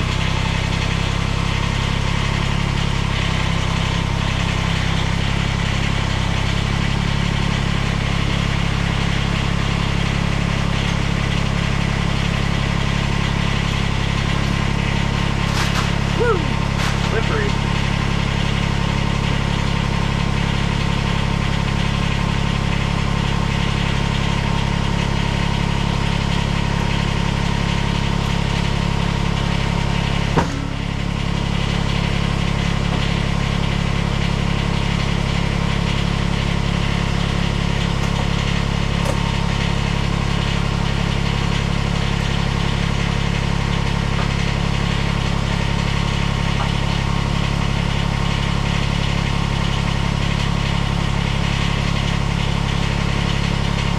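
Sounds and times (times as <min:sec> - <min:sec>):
tractor diesel engine idling: 0:00.0 - 0:53.9.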